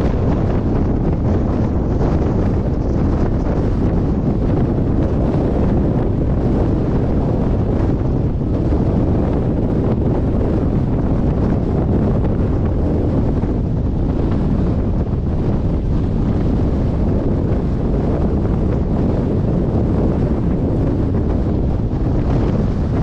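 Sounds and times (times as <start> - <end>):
strong wind on microphone: 0.0 - 23.0.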